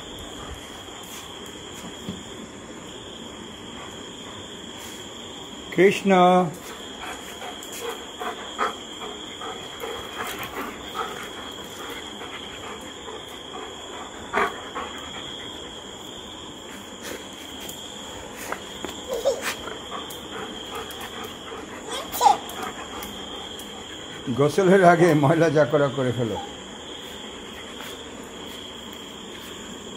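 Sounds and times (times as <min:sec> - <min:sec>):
crickets chirring: 0:00.0 - 0:29.9.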